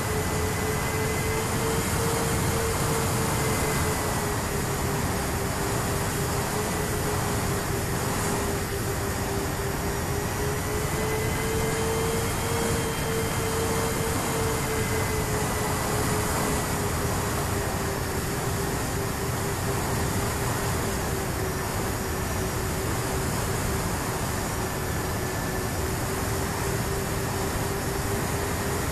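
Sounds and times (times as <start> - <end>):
electric motors whining: 0.0 - 23.8
heavy wind rush: 0.0 - 28.9.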